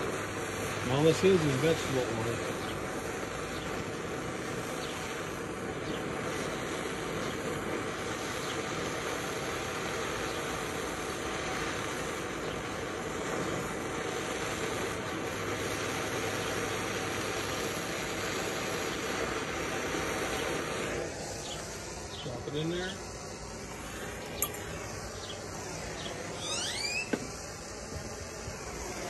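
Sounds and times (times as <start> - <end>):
blowtorch hissing: 0.0 - 29.0.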